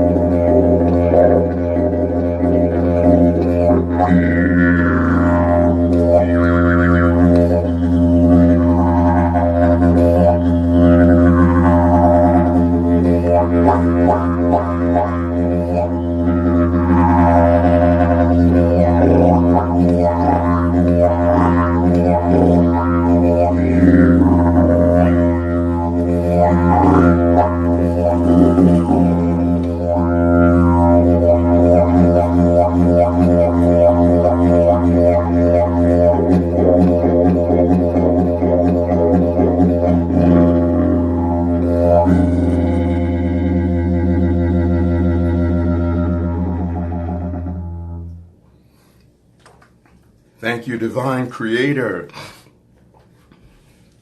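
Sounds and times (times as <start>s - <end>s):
didgeridoo drone: 0.0s - 48.5s.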